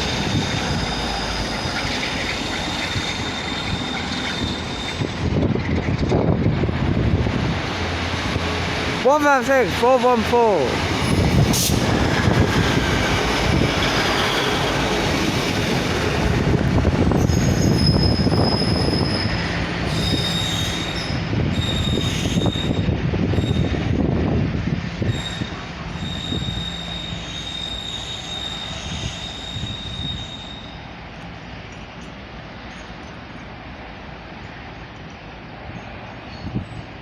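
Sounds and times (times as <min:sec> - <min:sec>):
train wheels squealing on rails: 0:00.0 - 0:06.4, 0:11.0 - 0:16.2, 0:17.0 - 0:24.1, 0:25.0 - 0:33.5, 0:34.4 - 0:37.0
low train running noise: 0:00.0 - 0:37.0.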